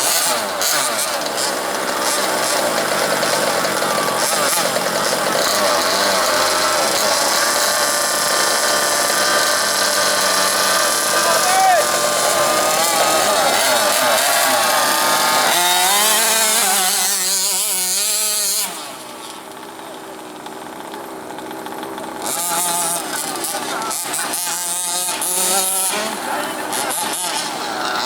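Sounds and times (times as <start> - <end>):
two-stroke engine revving: 0.0 - 28.0.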